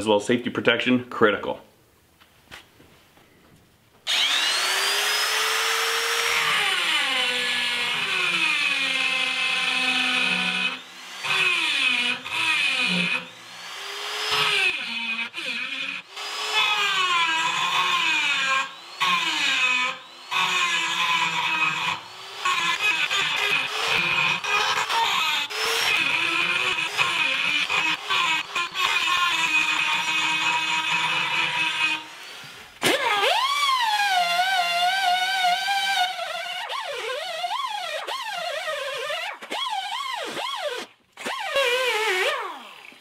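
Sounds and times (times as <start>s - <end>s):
die grinder whining: 4.0s - 43.0s
burr cutting steel: 4.1s - 42.7s.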